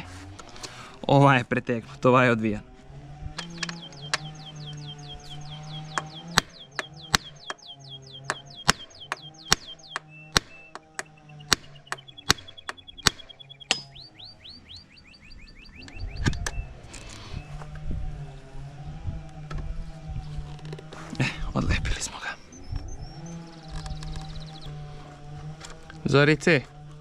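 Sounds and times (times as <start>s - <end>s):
handling noise: 2.6s - 14.5s, 15.8s - 27.0s.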